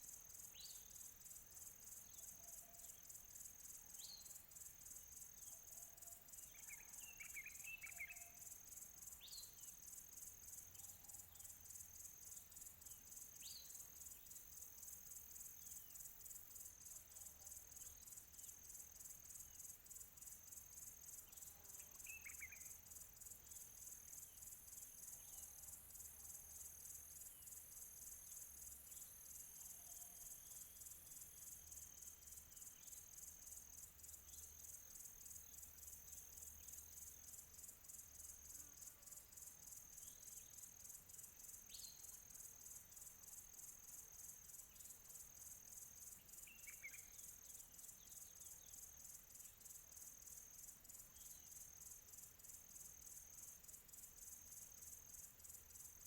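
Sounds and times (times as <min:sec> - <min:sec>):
faint crickets chirping: 0:00.0 - 0:56.0.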